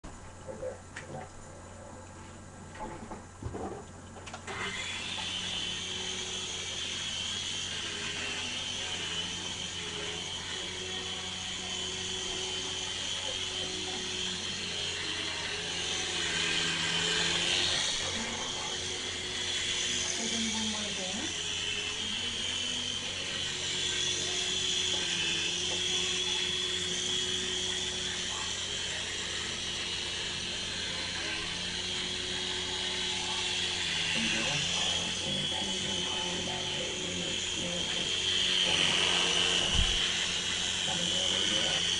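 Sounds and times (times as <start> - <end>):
toy helicopter motor whining: 4.4 - 41.9.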